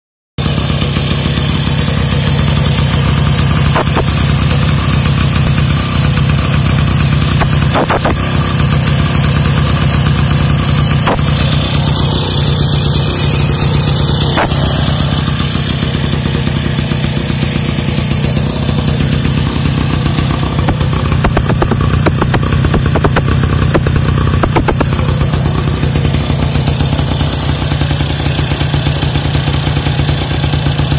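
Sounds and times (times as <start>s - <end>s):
moped engine idling: 0.4s - 30.9s.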